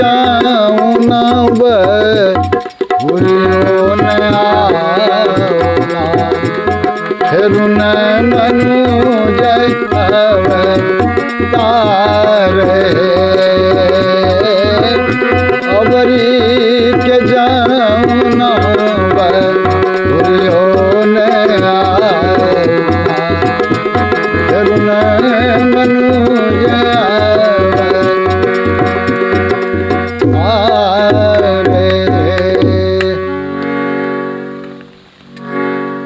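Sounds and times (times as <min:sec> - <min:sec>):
sustained melody line: 0:00.0 - 0:36.0
tabla rhythm: 0:00.0 - 0:36.0.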